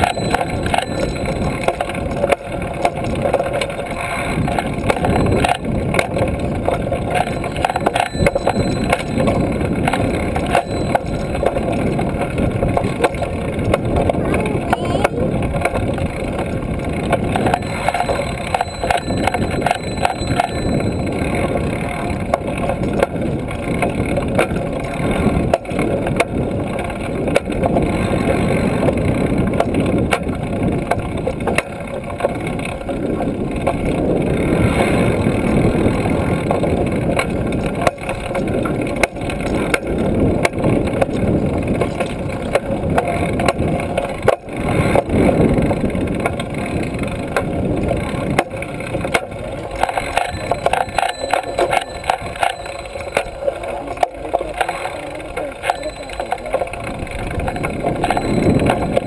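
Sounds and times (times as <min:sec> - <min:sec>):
wind rushing over camera: 0:00.0 - 0:54.6
bike clicks and knocks: 0:00.0 - 0:59.0.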